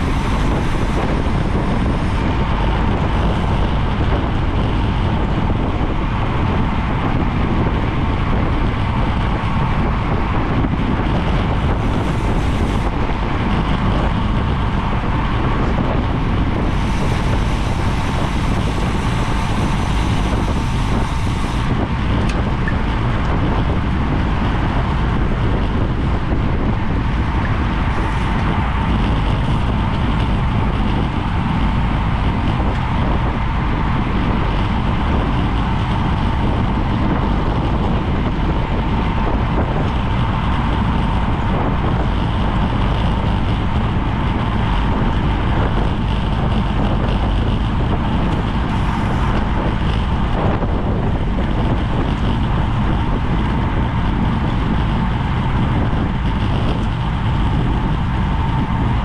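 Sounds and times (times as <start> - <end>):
road and tyre rumble: 0.0 - 59.0
wind buffeting microphone: 0.0 - 59.0.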